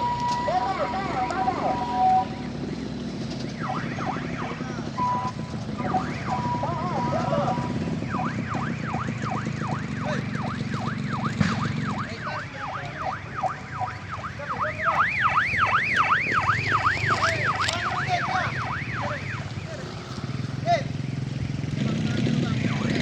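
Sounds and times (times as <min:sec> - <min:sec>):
yelping vehicle siren: 0:00.0 - 0:20.9, 0:22.3 - 0:23.0
truck engine running: 0:00.0 - 0:23.0.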